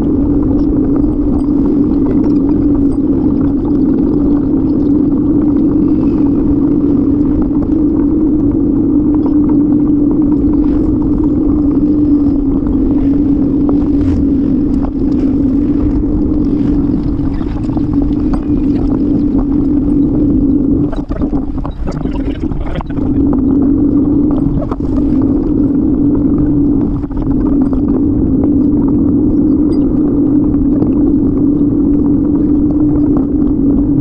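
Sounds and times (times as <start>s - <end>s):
bicycle road rumble: 0.0s - 34.0s
wind noise on microphone: 0.0s - 34.0s.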